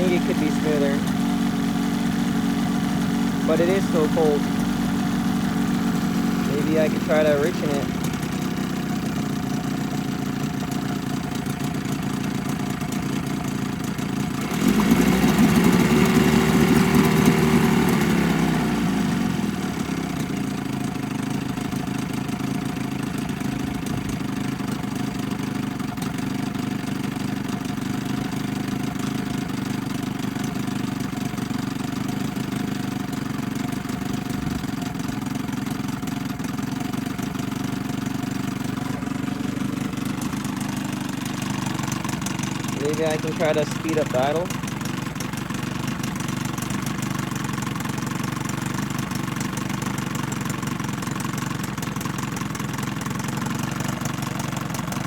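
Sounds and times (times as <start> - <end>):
outboard motor idling and revving: 0.0 - 55.0.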